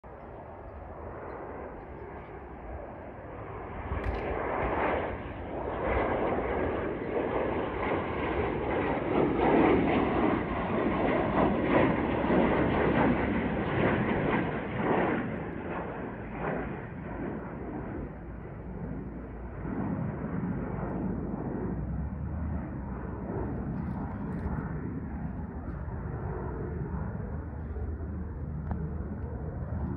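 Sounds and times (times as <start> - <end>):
jet engine roar: 0.1 - 29.9.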